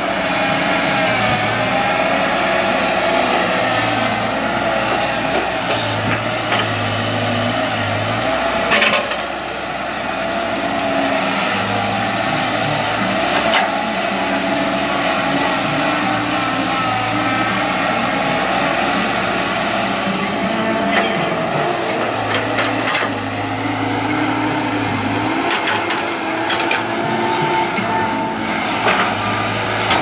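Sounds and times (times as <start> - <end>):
excavator diesel engine: 0.0 - 30.0.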